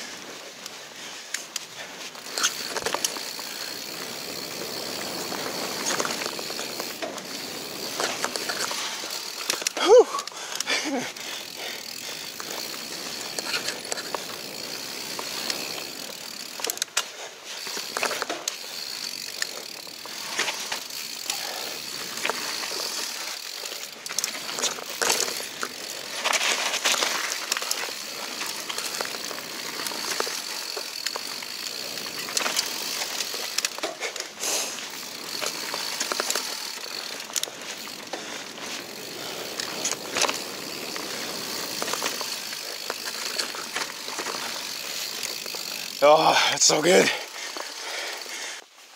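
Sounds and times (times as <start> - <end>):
bike knocking and rattling: 0.0 - 48.6
bike tyres on dirt: 0.0 - 48.9.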